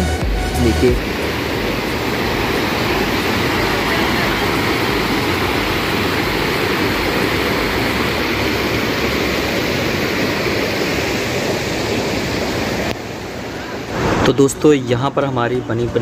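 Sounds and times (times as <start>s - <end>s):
river rushing over rocks: 0.9s - 16.0s.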